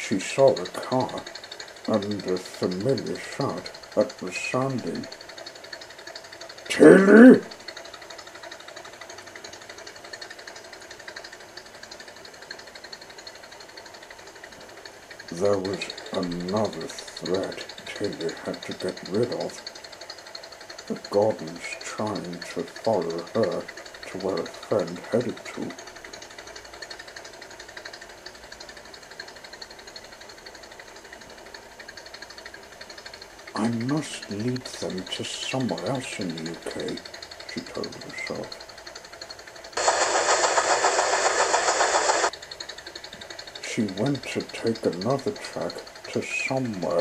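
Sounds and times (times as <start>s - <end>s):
small engine ticking: 0.0s - 47.0s
steam locomotive chuffing: 0.0s - 47.0s.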